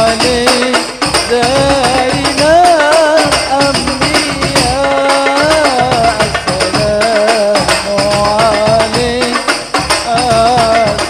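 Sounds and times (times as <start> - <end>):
steady percussion beat: 0.0 - 11.0.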